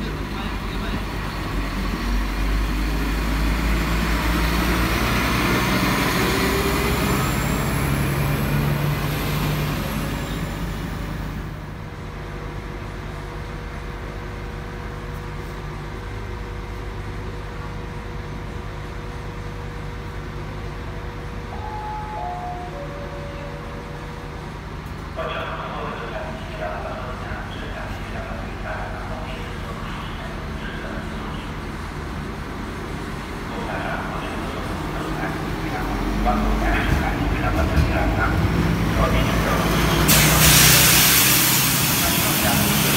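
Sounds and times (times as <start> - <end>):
diesel engine idling: 0.0 - 42.9
diesel railbus pulling away: 0.0 - 42.9.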